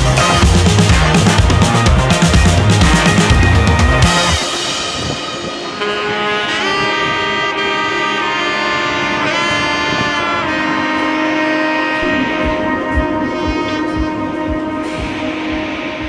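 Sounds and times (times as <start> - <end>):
music of long held notes: 0.0 - 16.0.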